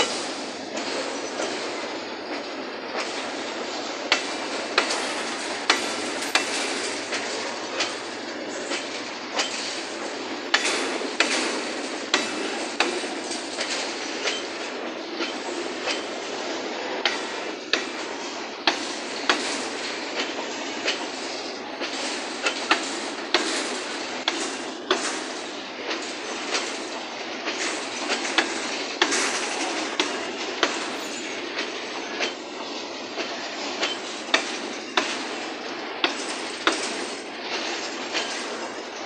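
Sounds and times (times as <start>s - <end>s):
train wheels rumbling on rail: 0.0s - 39.0s
wheels clacking over rail joints: 0.0s - 39.0s.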